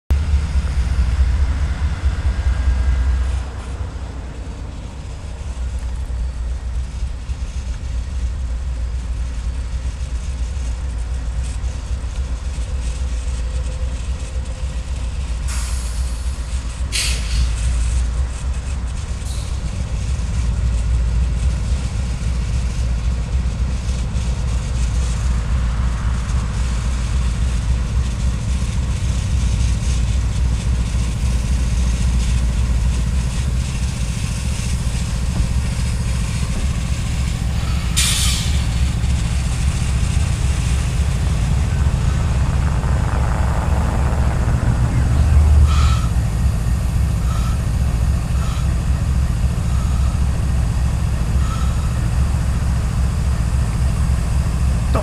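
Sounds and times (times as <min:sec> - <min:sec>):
locomotive engine rumble: 0:00.0 - 0:55.0.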